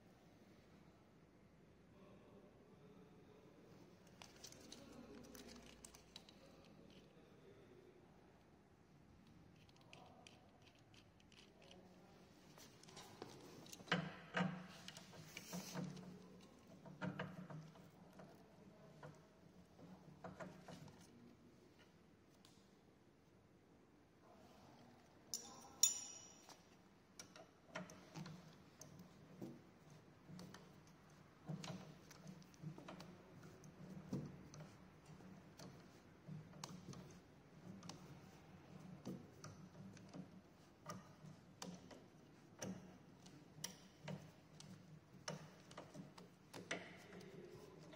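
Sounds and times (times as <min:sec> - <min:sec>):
faint clicks and metal knocks: 0:04.0 - 0:07.3, 0:09.2 - 0:22.7, 0:25.3 - 0:47.9.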